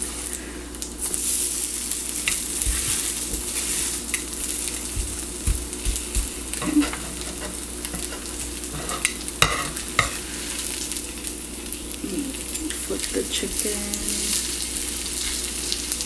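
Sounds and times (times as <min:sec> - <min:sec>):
cutlets sizzling in oil: 0:00.0 - 0:16.0.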